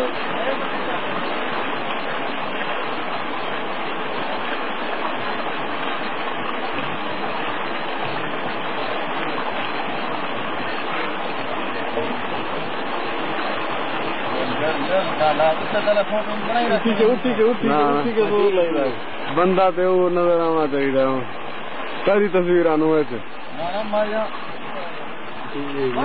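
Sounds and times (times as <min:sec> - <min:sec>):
water gushing from pipe: 0:00.0 - 0:26.0.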